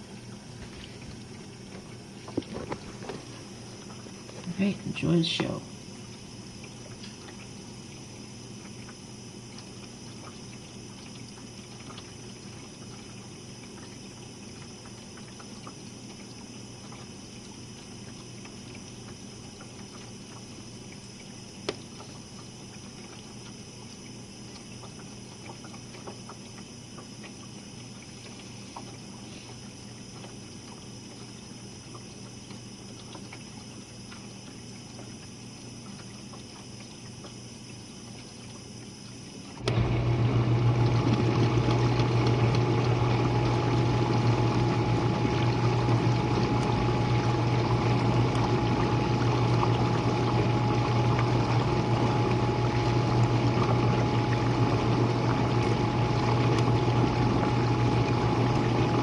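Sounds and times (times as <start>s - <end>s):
dishwasher motor hum: 0.0s - 59.0s
water splashing inside dishwasher: 0.0s - 59.0s.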